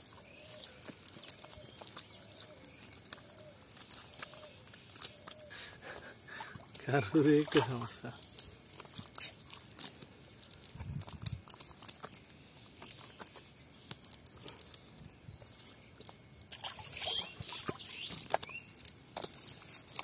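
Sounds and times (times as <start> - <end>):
fish flapping in a net: 0.0 - 20.0.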